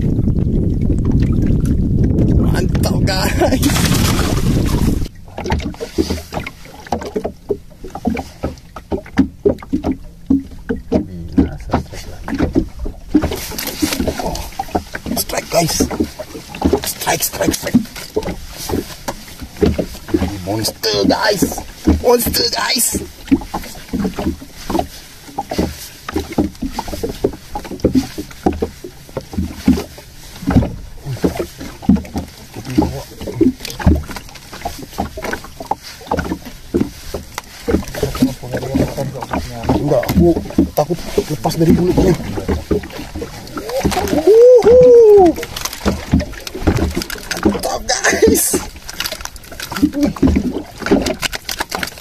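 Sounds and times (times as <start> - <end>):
hollow knocks on boat: 0.0 - 52.0.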